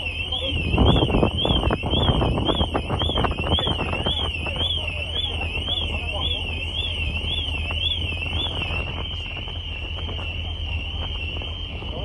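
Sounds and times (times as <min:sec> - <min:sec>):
car alarm warbling: 0:00.0 - 0:12.0.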